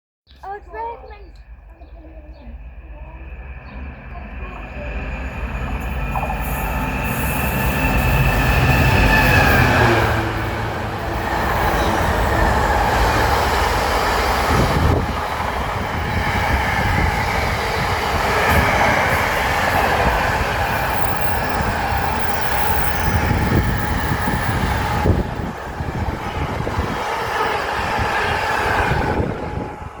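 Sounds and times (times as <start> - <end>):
diesel locomotive engine: 0.4 - 30.0.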